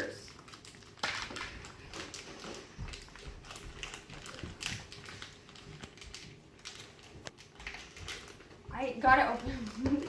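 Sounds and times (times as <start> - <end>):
package being opened by hand: 0.1 - 8.6.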